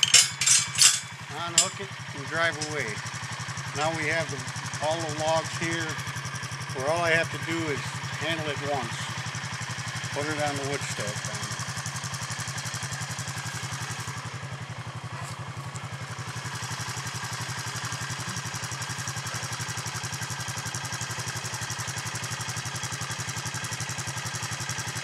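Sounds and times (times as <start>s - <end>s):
atv engine idling: 0.0s - 25.0s.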